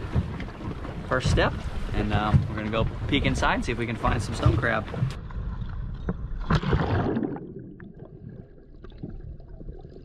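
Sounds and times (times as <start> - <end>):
fins splashing water: 0.0 - 10.0
muffled underwater rumble: 0.0 - 10.0.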